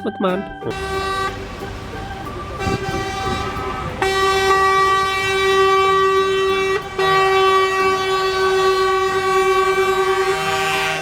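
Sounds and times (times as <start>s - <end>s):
electronic horn blasts: 0.6s - 11.0s.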